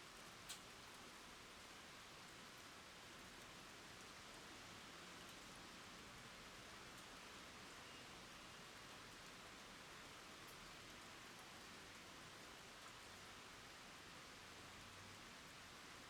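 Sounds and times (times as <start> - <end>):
rain falling on wet ground: 0.0 - 16.0.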